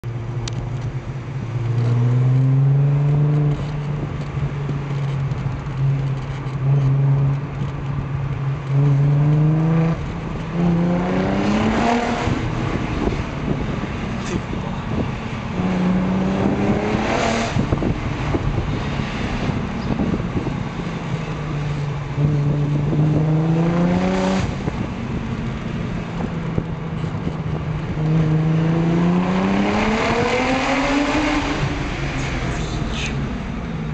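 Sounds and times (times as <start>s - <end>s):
car engine accelerating hard: 1.4s - 33.9s.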